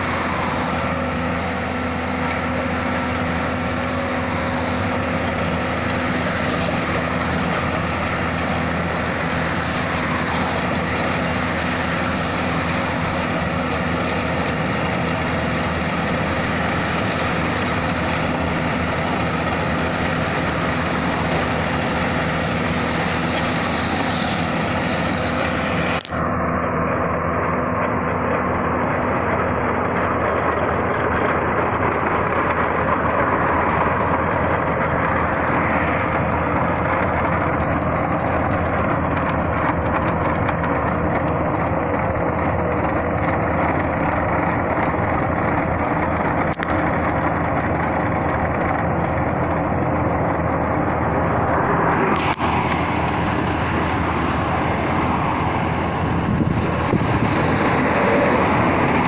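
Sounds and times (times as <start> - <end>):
cutter drum grinding asphalt: 0.0 - 59.0
diesel engine running hard: 0.0 - 59.0.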